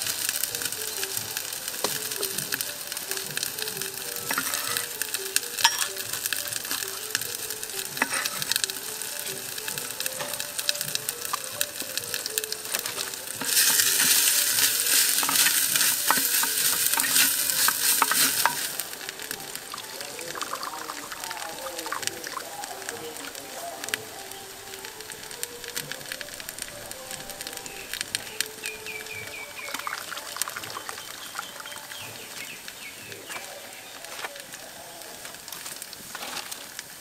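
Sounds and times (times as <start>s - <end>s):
curry paste sizzling in hot oil: 0.0s - 37.0s.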